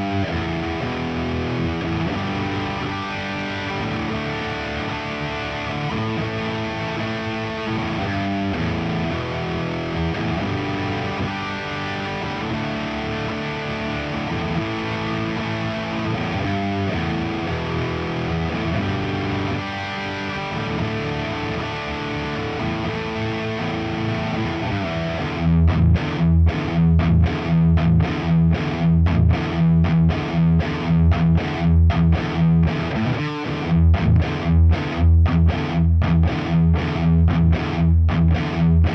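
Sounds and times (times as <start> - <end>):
chopped low guitar riff: 0.0 - 38.9
distorted electric guitar chords: 0.0 - 38.9.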